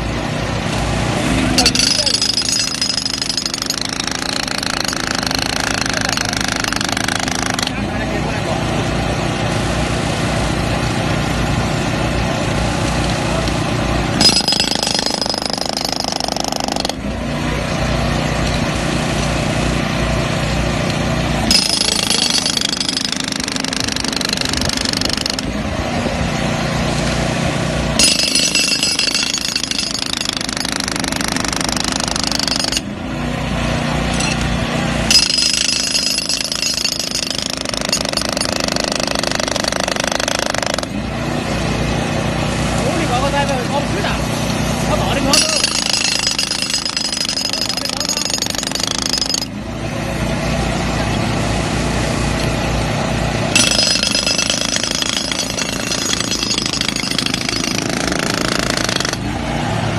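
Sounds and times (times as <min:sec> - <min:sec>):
hydraulic breaker pounding concrete: 0:00.6 - 0:09.1, 0:12.4 - 0:33.0, 0:33.9 - 0:49.7, 0:51.0 - 0:59.4.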